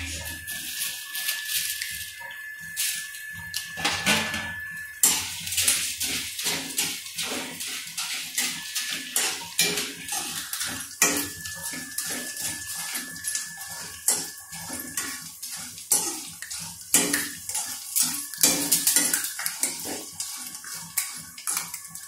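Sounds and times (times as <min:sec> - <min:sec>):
corn sizzling in oil: 0:00.0 - 0:22.0
wire strainer scraping a pan: 0:00.0 - 0:22.0.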